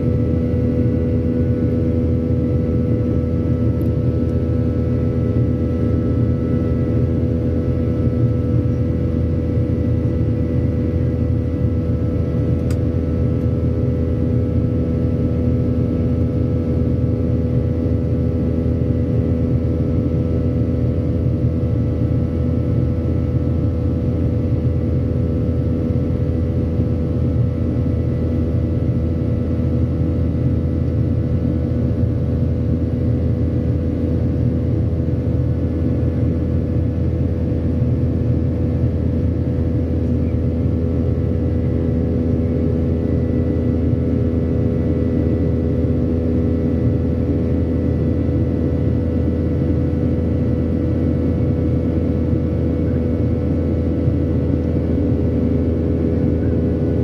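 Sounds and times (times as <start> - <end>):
jet engines droning: 0.0 - 21.1, 29.8 - 57.0.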